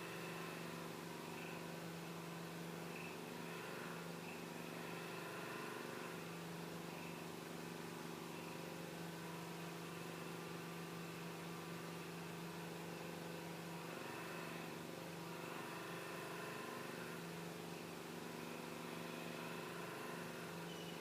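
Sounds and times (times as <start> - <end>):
faint machine hum: 0.0 - 21.0.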